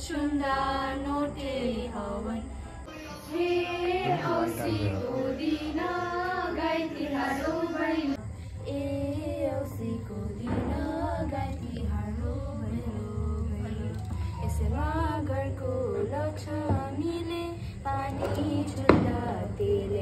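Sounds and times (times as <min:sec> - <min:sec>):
girls and women singing: 0:00.0 - 0:20.0.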